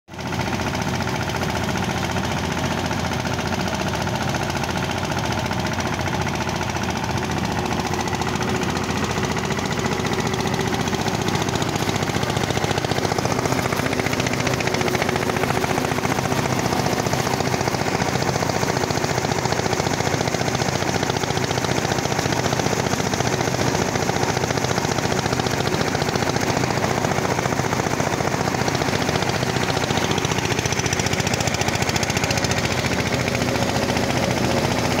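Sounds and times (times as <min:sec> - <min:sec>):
diesel tractor engine running: 0:00.1 - 0:35.0
thresher machinery running: 0:00.1 - 0:35.0.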